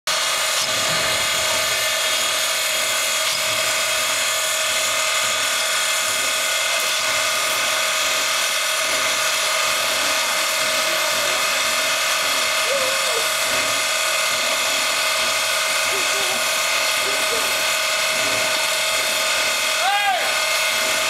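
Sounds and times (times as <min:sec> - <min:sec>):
steam locomotive blowing off steam: 0:00.1 - 0:21.0.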